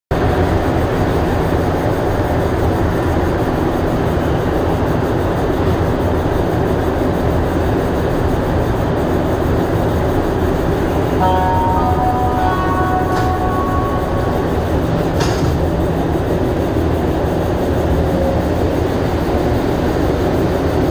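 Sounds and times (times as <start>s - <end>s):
subway train hum and hiss: 0.2s - 20.9s.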